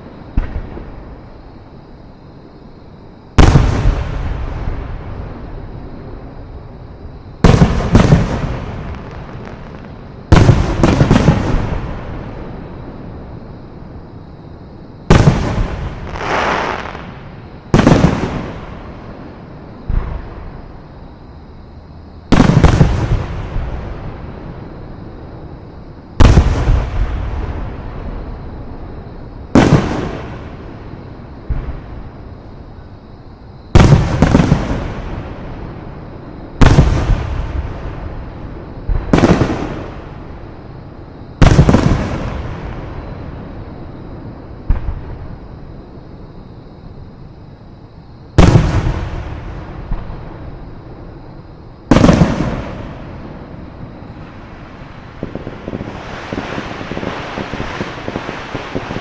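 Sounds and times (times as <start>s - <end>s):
fireworks bursting with rumble: 0.0s - 1.6s, 3.3s - 21.0s, 22.2s - 33.1s, 33.7s - 45.8s, 48.4s - 59.0s.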